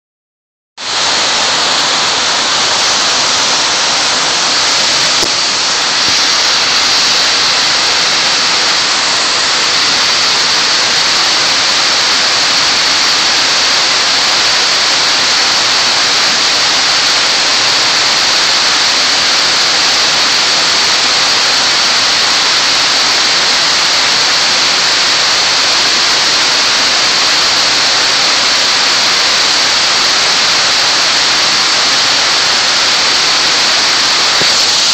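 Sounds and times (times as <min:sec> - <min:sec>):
water pouring down fountain: 0:00.8 - 0:34.9.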